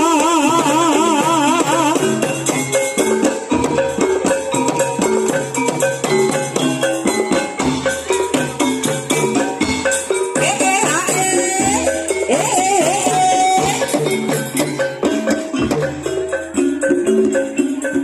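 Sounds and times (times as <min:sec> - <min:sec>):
drum strokes: 0:00.0 - 0:18.0
gamelan music: 0:00.0 - 0:18.0
ringing metallophone notes: 0:00.0 - 0:18.0
wavering held melody: 0:00.0 - 0:18.0.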